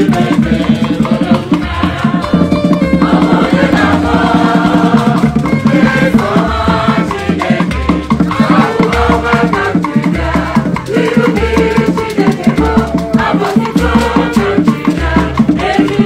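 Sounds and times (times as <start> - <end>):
live percussion band music: 0.0 - 16.0
repeating bass line: 0.0 - 16.0.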